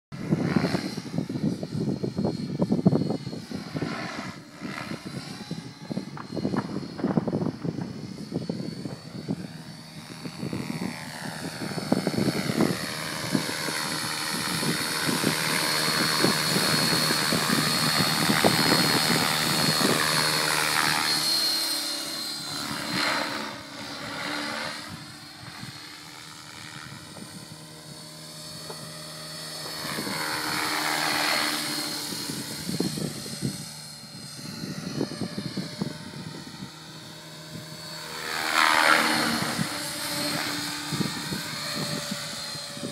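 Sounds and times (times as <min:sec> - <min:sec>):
model helicopter rotor whine: 0:00.1 - 0:42.9.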